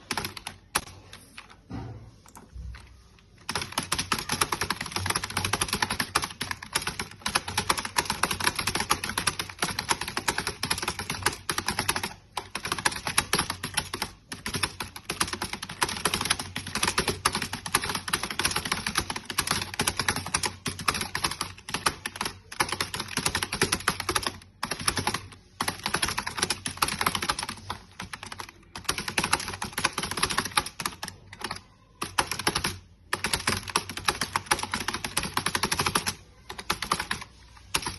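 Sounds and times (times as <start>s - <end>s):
fast typing on keyboard: 0.0s - 1.6s, 2.3s - 37.9s.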